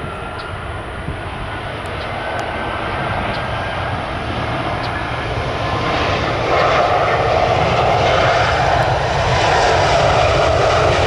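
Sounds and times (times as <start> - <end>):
airliner engine noise: 0.0 - 11.0.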